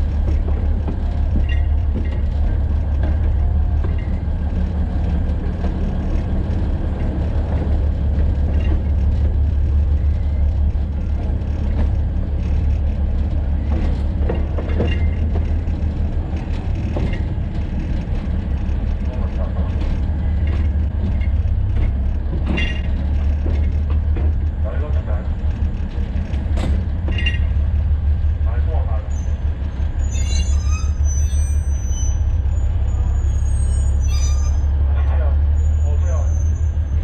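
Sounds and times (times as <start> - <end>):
diesel locomotive engine hum: 0.0 - 37.0.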